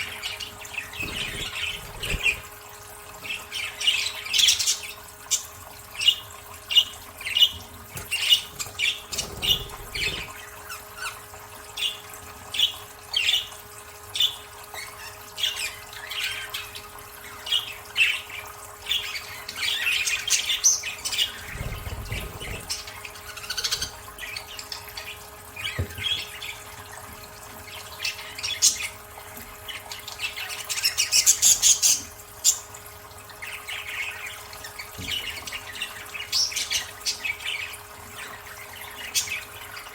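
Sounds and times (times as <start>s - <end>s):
budgerigars chirping and squawking: 0.0s - 2.6s, 3.2s - 39.9s.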